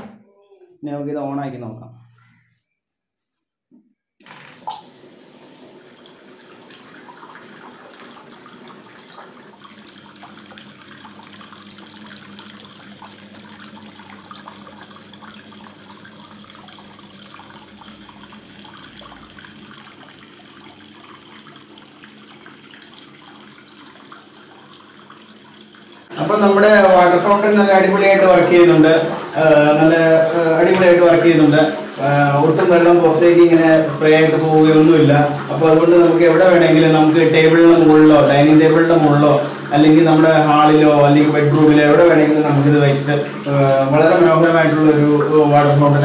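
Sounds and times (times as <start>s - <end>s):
electric pump hum: 4.2s - 46.0s
water trickling and splashing: 4.3s - 46.0s.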